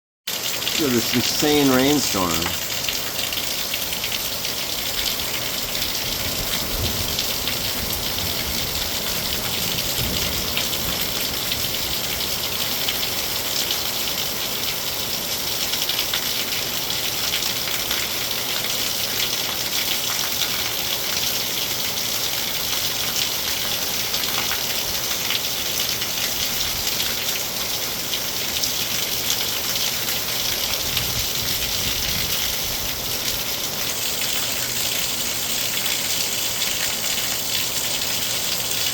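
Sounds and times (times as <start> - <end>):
heavy rain falling: 0.3 - 38.9.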